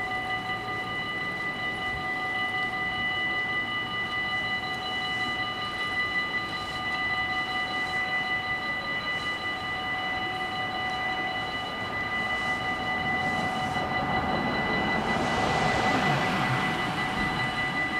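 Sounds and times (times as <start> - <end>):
level crossing warning bells ringing: 0.0 - 17.9.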